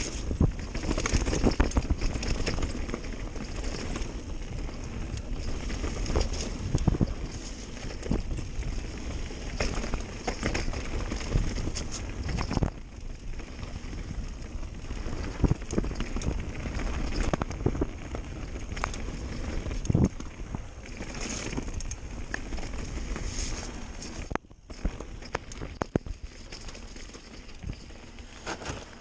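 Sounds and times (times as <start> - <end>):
bike rattling over bumps: 0.0 - 29.0
bike tyres rolling on dirt: 0.0 - 29.0
wind rumbling on microphone: 0.0 - 29.0.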